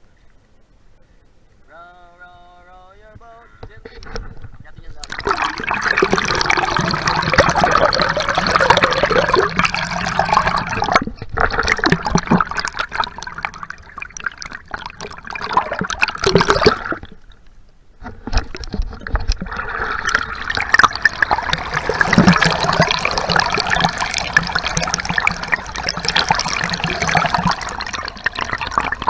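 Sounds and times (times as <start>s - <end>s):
underwater churning and bubbling: 4.1s - 29.0s.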